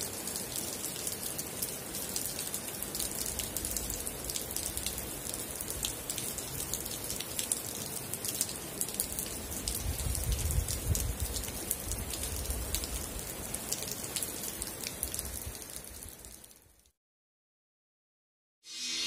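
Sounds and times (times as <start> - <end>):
rain drops ticking on a surface: 0.0 - 17.0.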